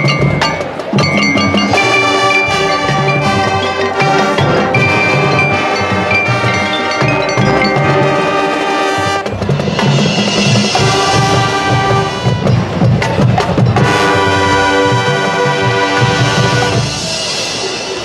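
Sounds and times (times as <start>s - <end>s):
drums and cymbals: 0.0s - 18.0s
wind and brass chords: 0.0s - 18.0s.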